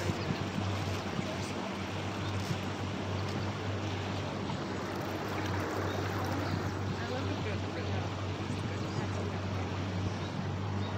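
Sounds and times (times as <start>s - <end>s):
boat motor droning: 0.0s - 10.9s
wind and water rushing: 0.0s - 10.9s.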